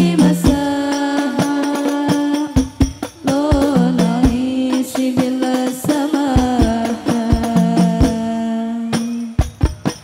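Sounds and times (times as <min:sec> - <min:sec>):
jingling tambourine: 0:00.0 - 0:08.2, 0:09.0 - 0:10.0
women singing in unison: 0:00.0 - 0:09.6
frame drums: 0:00.0 - 0:10.0.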